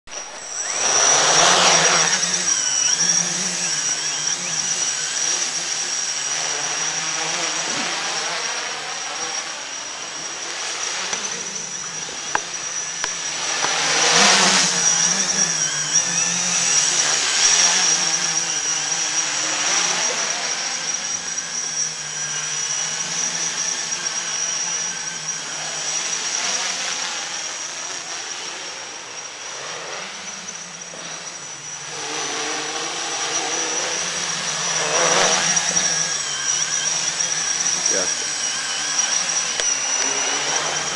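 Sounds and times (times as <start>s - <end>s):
quadcopter propellers buzzing: 0.1s - 40.9s
steady high whine: 0.1s - 40.9s.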